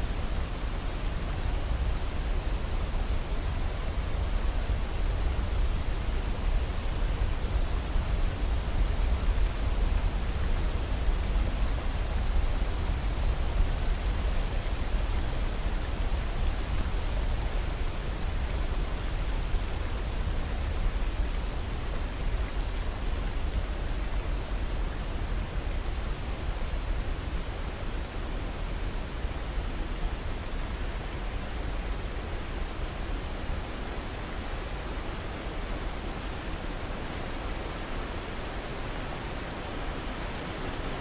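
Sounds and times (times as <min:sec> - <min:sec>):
river rushing over boulders: 0:00.0 - 0:41.0.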